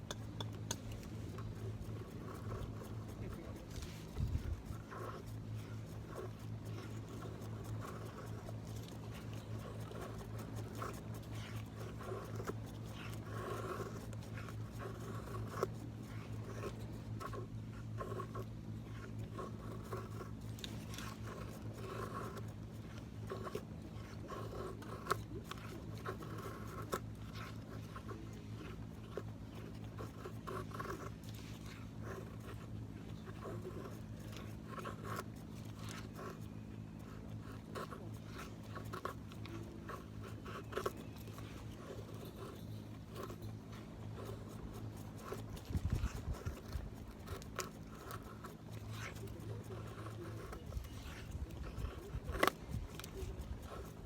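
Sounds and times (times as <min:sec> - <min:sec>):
knife scraping wood: 0:00.0 - 0:54.0.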